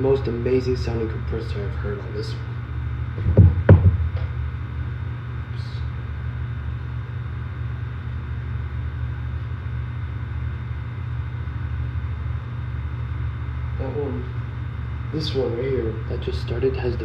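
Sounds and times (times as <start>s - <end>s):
air conditioner units humming: 0.0s - 17.0s.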